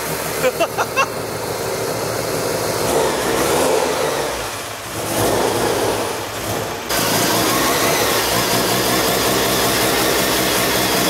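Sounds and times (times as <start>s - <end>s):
rotary engine revving: 0.0s - 11.0s.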